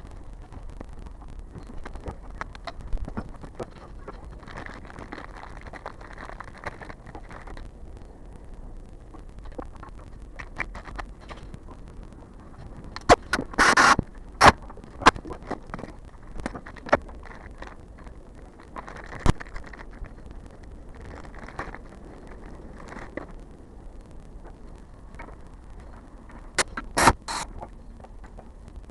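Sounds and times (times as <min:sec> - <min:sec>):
low steady rumble: 0:00.0 - 0:28.9.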